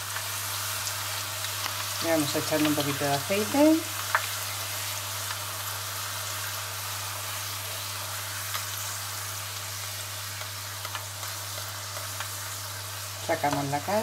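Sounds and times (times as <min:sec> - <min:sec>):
dough sizzling in hot oil: 0:00.0 - 0:14.0.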